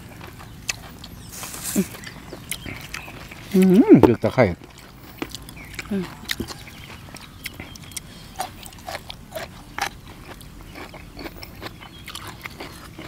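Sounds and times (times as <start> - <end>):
people chewing crunchy food: 0.0 - 13.0.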